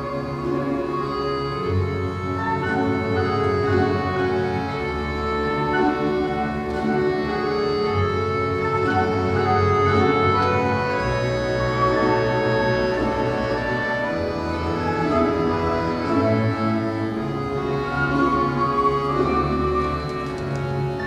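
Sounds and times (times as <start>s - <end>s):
folk string orchestra playing: 0.0s - 21.0s.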